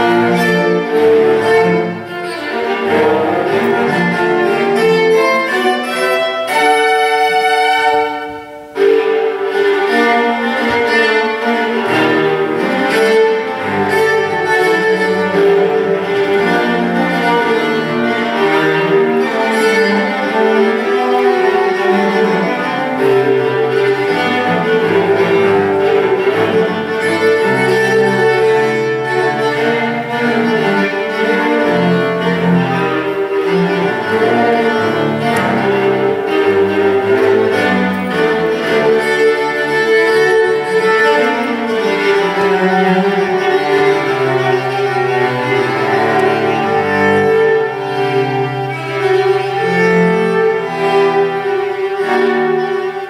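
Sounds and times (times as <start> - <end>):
cello playing bowed notes: 0.0 - 53.0
viola playing bowed notes: 0.0 - 53.0.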